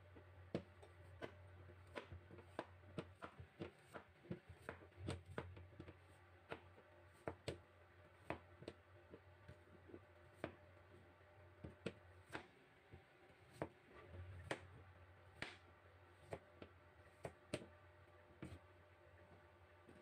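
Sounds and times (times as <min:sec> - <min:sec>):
knife chopping on plastic board: 0:00.2 - 0:18.7.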